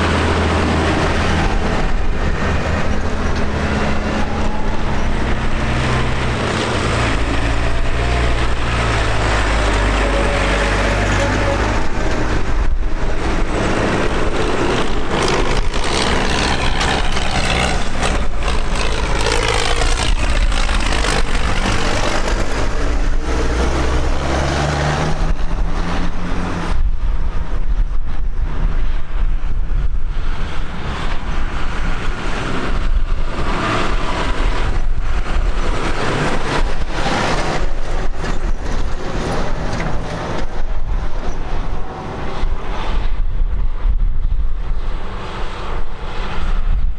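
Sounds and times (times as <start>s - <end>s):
tractor engines driving past: 0.0s - 26.8s, 30.2s - 43.8s.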